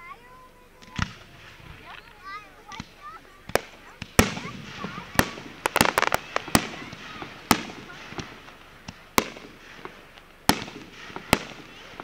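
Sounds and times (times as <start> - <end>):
firework pops and crackles: 0.8 - 12.0
firework shells bursting: 0.8 - 12.0.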